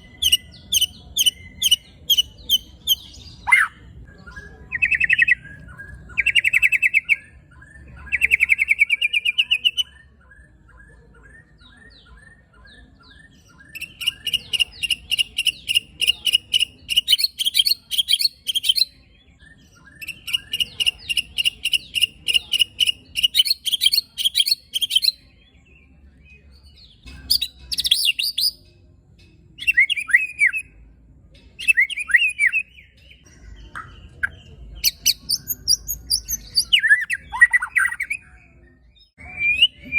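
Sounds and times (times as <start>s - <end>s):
bird singing rapid trills: 0.0s - 25.3s, 31.6s - 39.9s.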